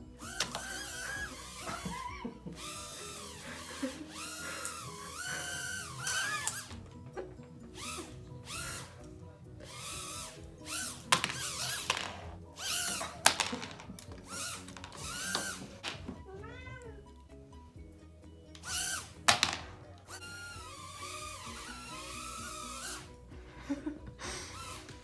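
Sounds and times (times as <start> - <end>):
toy drone propellers whirring: 0.0 - 6.8, 7.7 - 16.0, 18.6 - 23.3, 24.2 - 25.0
background music: 0.0 - 25.0.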